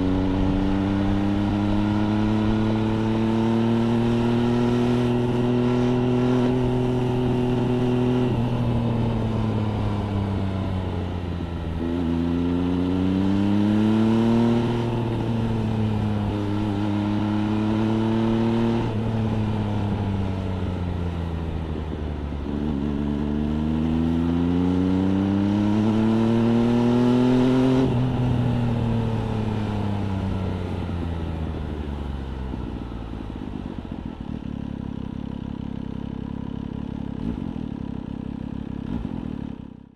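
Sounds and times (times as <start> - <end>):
motorcycle engine revving: 0.0 - 31.5, 34.0 - 39.9.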